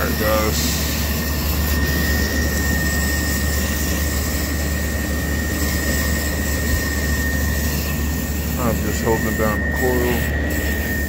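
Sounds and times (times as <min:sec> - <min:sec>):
constant low drone: 0:00.0 - 0:11.0
hose spraying water: 0:00.0 - 0:11.0
thin high tone: 0:00.0 - 0:11.0.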